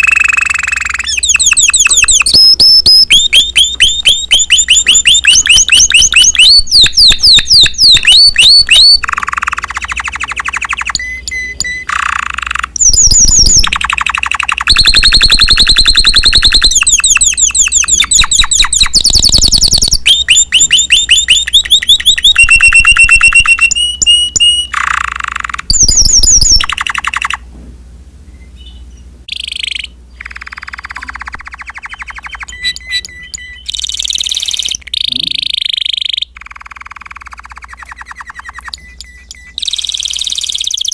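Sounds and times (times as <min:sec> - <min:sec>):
canary singing trills: 0:00.0 - 0:27.5, 0:28.2 - 0:40.9.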